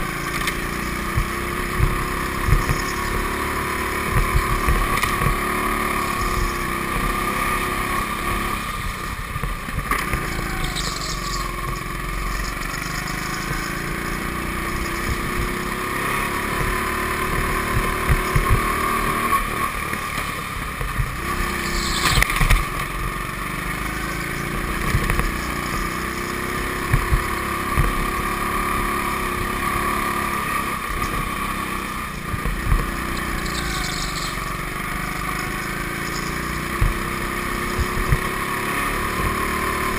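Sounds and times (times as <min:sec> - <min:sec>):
go-kart motor droning: 0:00.0 - 0:39.9.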